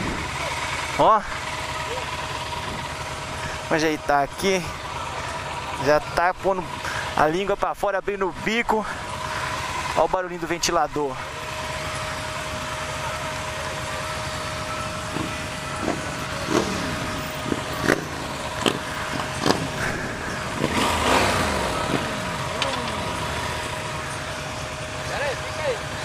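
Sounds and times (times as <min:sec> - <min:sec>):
motorcycle engine idling: 0:00.0 - 0:26.0
motorcycles revving: 0:00.0 - 0:26.0.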